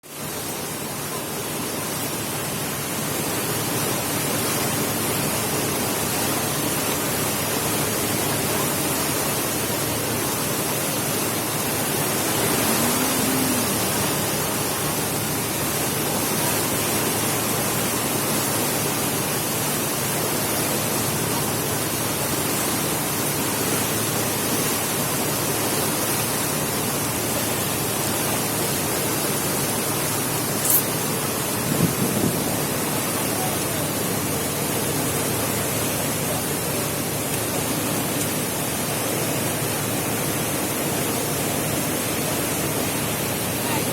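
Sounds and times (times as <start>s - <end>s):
wind and water rushing: 0.0s - 43.9s
low boat engine hum: 0.1s - 43.9s.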